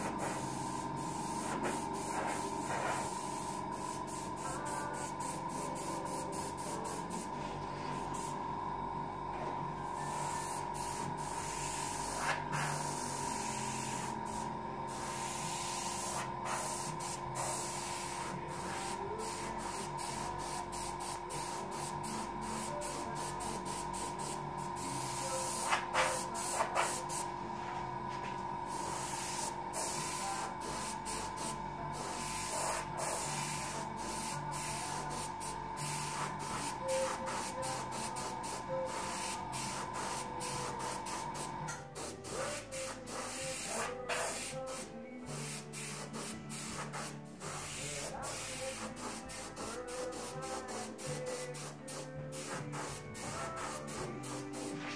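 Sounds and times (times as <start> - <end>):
airbrush hissing: 0.0 - 7.4, 8.0 - 8.4, 10.0 - 27.3, 28.7 - 54.9
steady hum: 0.0 - 45.7.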